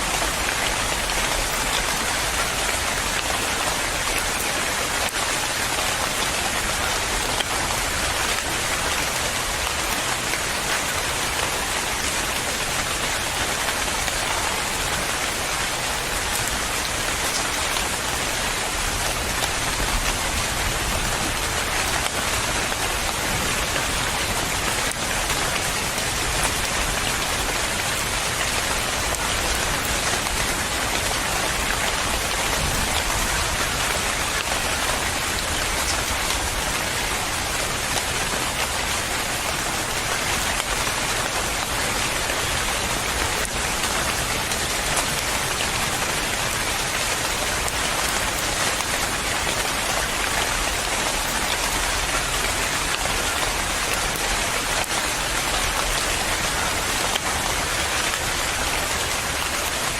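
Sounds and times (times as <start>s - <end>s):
rain falling: 0.0s - 59.9s
raindrops pattering: 0.0s - 59.9s.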